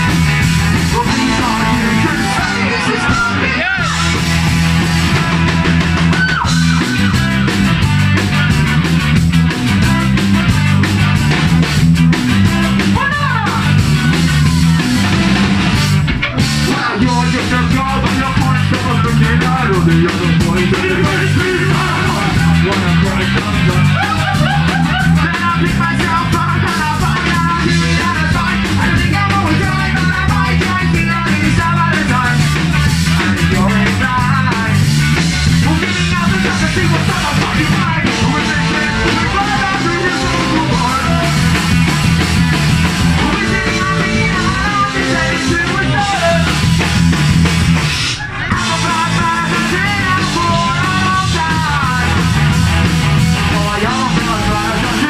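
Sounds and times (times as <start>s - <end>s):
person singing lead vocal: 0.0s - 7.5s, 12.8s - 15.4s, 16.5s - 41.9s, 43.0s - 46.8s, 48.1s - 52.5s, 53.4s - 55.0s
drums and bass: 0.0s - 55.0s
electric guitar: 0.0s - 55.0s.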